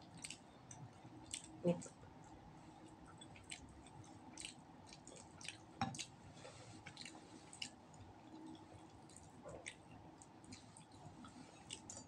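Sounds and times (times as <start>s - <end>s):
person chewing: 0.0s - 1.6s, 3.0s - 12.0s.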